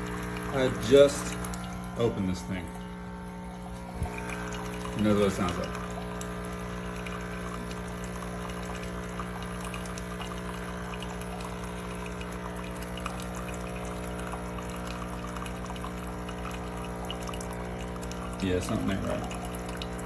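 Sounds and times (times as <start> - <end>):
coffee maker pump humming: 0.0 - 20.0
coffee pouring: 0.0 - 20.0.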